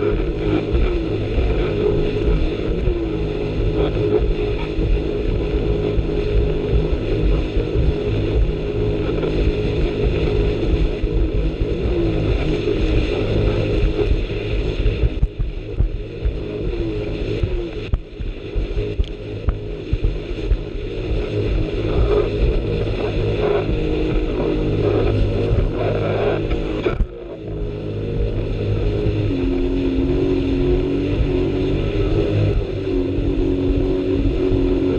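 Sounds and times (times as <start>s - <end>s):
jet ski engine at high revs: 0.0s - 34.9s
wind buffeting microphone: 0.0s - 34.9s.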